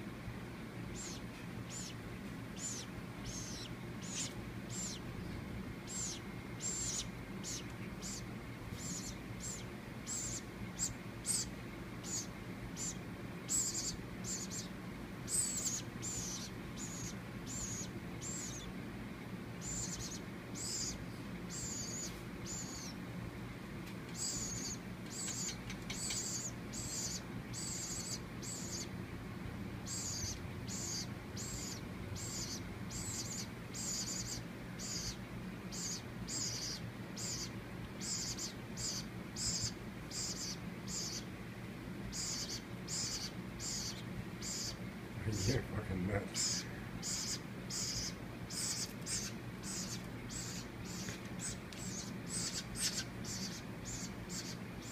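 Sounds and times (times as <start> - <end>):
baby woodpecker begging calls: 0.8 - 18.8, 19.6 - 23.0, 24.1 - 29.0, 29.7 - 41.3, 42.0 - 54.9.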